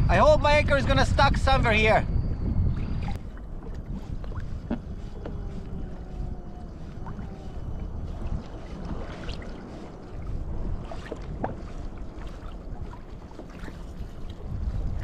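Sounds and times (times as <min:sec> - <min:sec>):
wind buffeting microphone: 0:00.0 - 0:15.0
water lapping against hull: 0:02.5 - 0:15.0.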